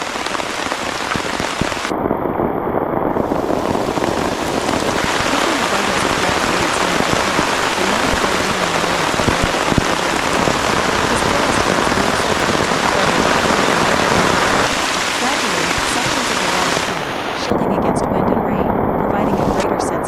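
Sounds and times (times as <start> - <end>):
heavy rain falling: 0.0 - 2.0, 3.0 - 20.0.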